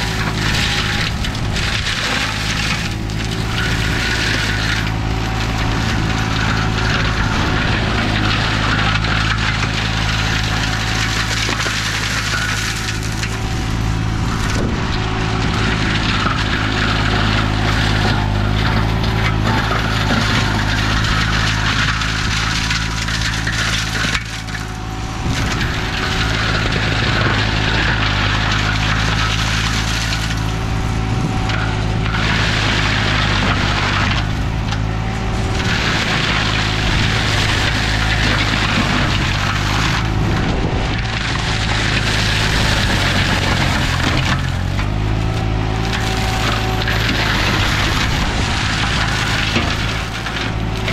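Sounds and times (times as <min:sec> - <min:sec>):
mower engine running: 0:00.0 - 0:50.9
wood crackling and splintering: 0:00.0 - 0:50.9.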